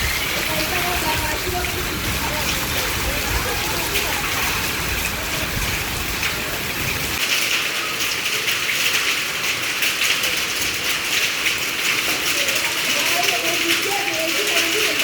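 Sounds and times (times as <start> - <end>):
heavy rain pouring: 0.0 - 15.0
raindrops ticking: 0.0 - 15.0.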